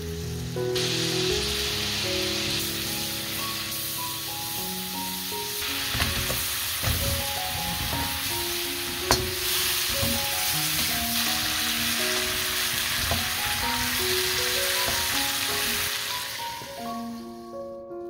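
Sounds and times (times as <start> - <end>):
apples sizzling in butter: 0.0 - 17.8
light background music: 0.0 - 18.0.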